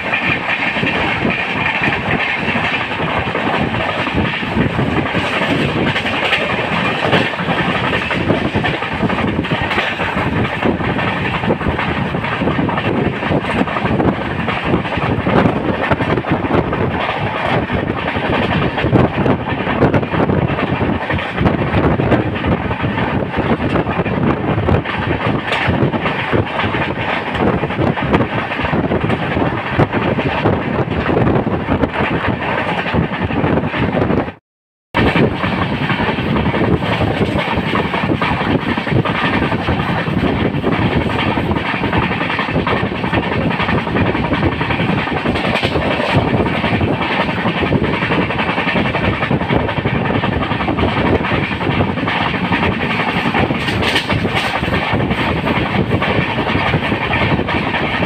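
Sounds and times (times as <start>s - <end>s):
wheels clacking over rail joints: 0.0s - 34.2s, 35.0s - 58.0s
train wheels rumbling on rail: 0.0s - 34.4s, 35.0s - 58.0s.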